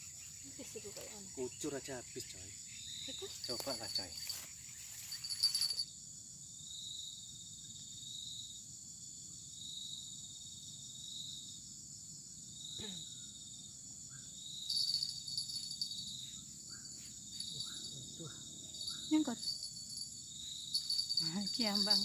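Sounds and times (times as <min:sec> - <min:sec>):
insects droning: 0:00.0 - 0:22.0
pulsing insect call: 0:00.0 - 0:22.0.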